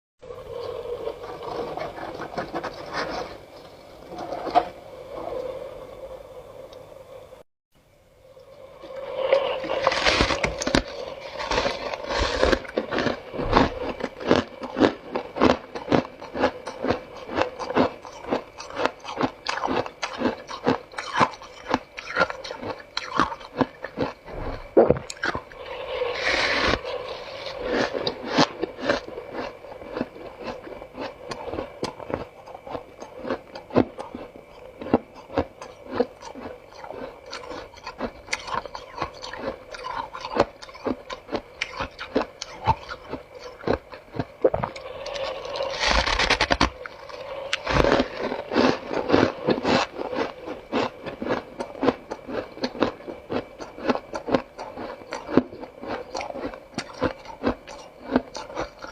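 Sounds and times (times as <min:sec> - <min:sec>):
crunchy chewing of ice: 0:00.2 - 0:05.5, 0:08.8 - 0:58.9.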